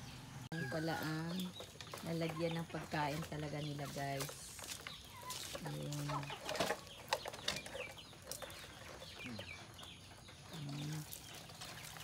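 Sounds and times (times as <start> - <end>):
chickens clucking: 0.0 - 12.0
chicks chirping: 0.0 - 12.0.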